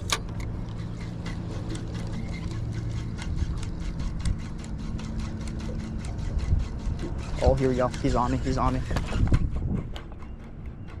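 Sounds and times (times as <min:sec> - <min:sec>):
boat motor humming: 0:00.0 - 0:11.0
fishing reel ticking: 0:00.1 - 0:10.8.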